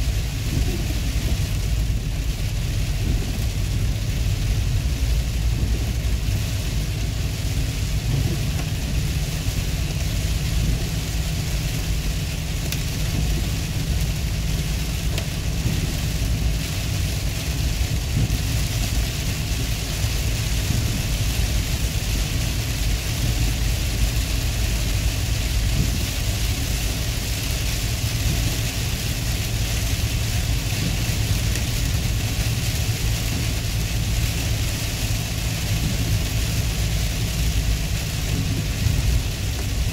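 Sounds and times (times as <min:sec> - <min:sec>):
rain on windshield: 0:00.0 - 0:39.9
road and engine rumble: 0:00.0 - 0:39.9
tyres on wet road: 0:00.0 - 0:39.9.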